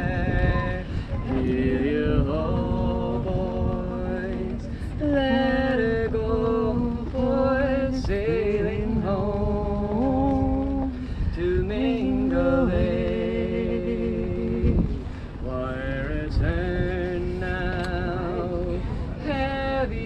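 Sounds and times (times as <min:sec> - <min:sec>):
steady low rumble: 0:00.0 - 0:20.0
voices singing unaccompanied: 0:00.0 - 0:20.0.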